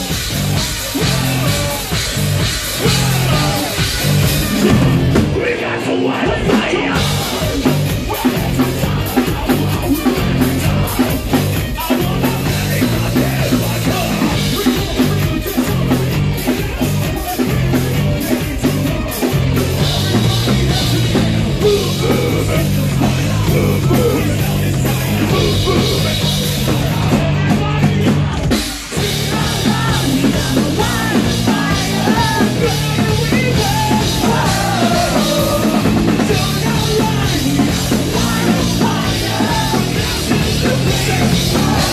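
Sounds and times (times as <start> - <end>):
metalcore band with synths: 0.0 - 41.9
pounding drum kit: 0.0 - 41.9
yelled and sung vocals: 0.0 - 41.9.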